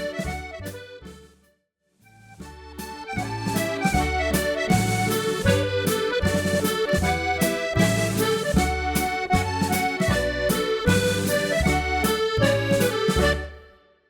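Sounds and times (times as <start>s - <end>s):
accordion playing a march: 0.0s - 1.5s, 2.1s - 14.0s.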